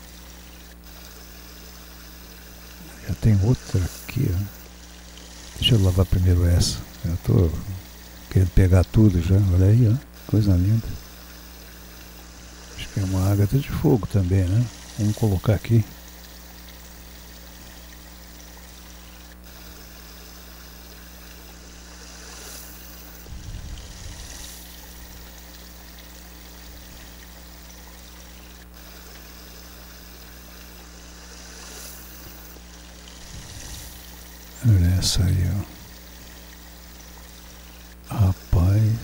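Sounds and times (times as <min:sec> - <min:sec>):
shallow water running in a ditch: 0:00.0 - 0:39.0.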